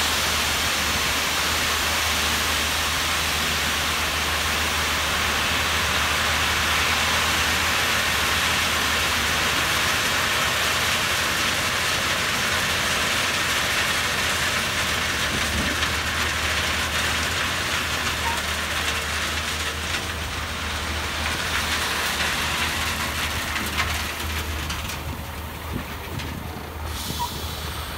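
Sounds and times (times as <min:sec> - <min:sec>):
diesel engine hum: 0:00.0 - 0:27.9
gravel pouring and sliding: 0:00.0 - 0:27.9.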